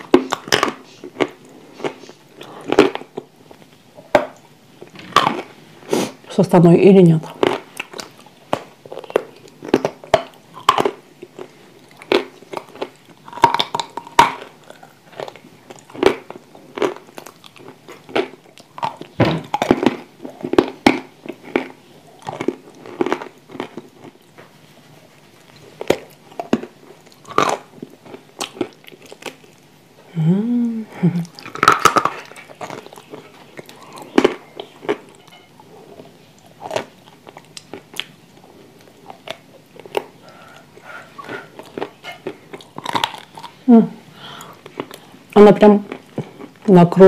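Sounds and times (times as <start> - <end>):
crunchy bites and chewing: 0.0 - 5.6, 7.3 - 24.4, 25.1 - 29.7, 31.3 - 35.4, 36.0 - 43.6.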